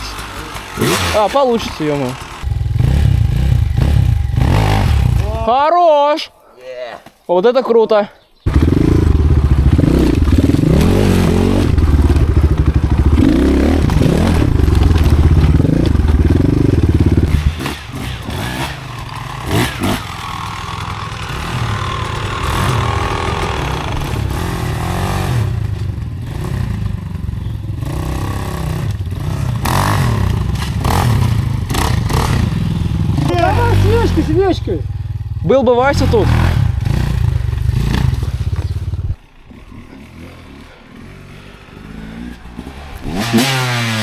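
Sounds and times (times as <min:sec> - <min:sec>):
motorcycle engine revving: 0:00.0 - 0:05.6, 0:08.4 - 0:44.0.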